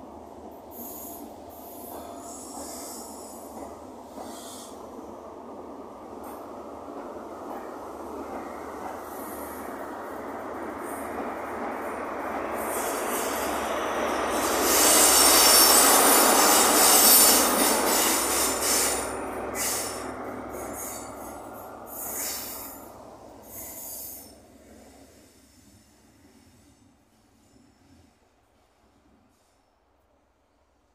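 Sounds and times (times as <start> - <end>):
train rumbling past: 0.0 - 30.9.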